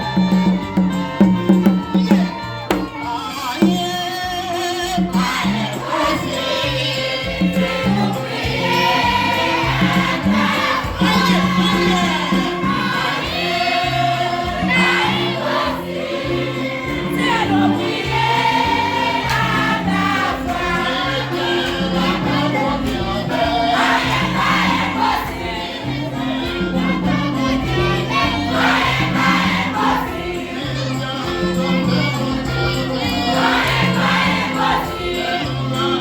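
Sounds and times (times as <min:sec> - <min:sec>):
instrumental accompaniment: 0:00.0 - 0:36.0
choir singing a hymn: 0:04.4 - 0:36.0.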